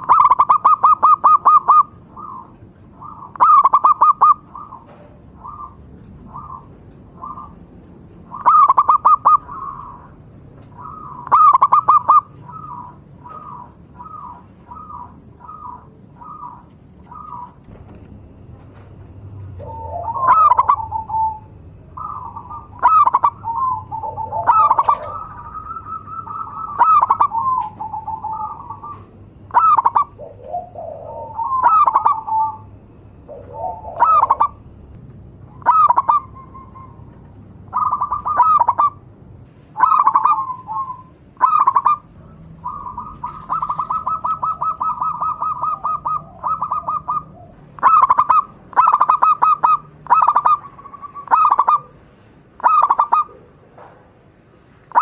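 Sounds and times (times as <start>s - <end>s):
dove cooing: 0.0s - 53.9s.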